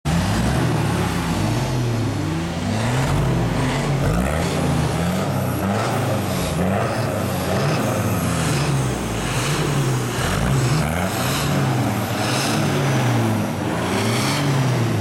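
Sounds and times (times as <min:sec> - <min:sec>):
car engine idling: 0:00.1 - 0:15.0.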